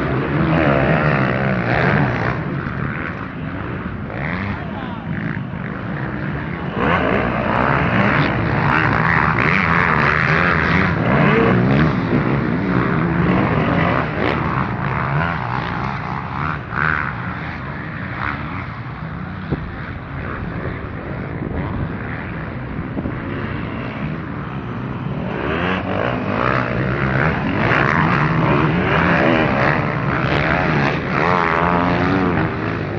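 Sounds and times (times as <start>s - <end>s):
motocross bike engines revving: 0.0s - 32.9s.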